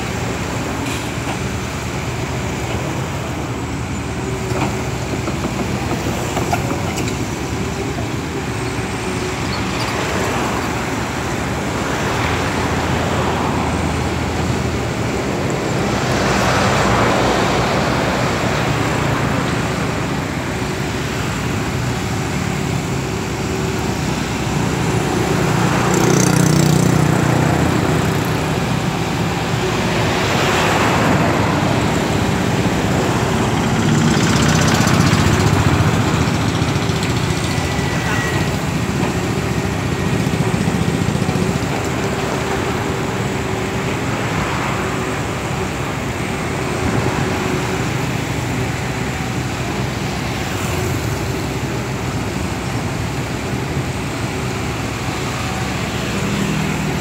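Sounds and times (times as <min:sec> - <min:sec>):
excavator diesel engine running: 0:00.0 - 0:57.0
road traffic passing: 0:00.0 - 0:57.0.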